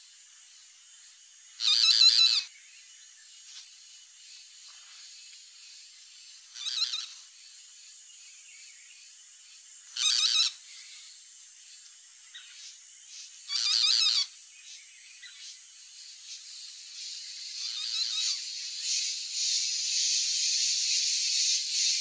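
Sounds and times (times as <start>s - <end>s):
faint high hiss: 0.0s - 22.0s
bird chirping: 1.5s - 22.0s.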